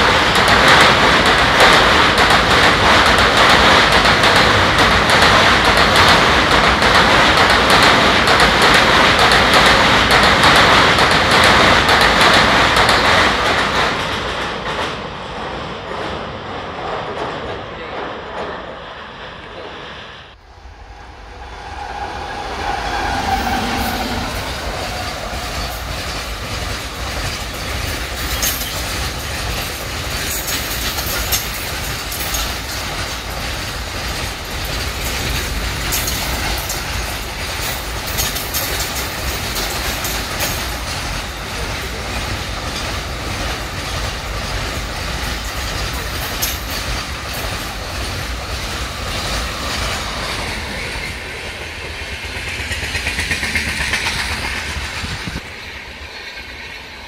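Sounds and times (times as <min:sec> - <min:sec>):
wheels clicking over rail joints: 0:00.0 - 0:15.0, 0:22.6 - 0:55.4
freight train rumbling past: 0:00.0 - 0:57.0.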